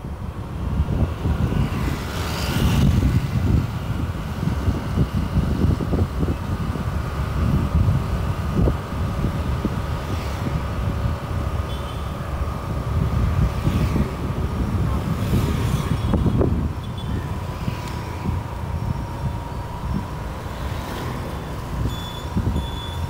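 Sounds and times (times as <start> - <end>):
vehicle travelling rumble: 0.0 - 23.0.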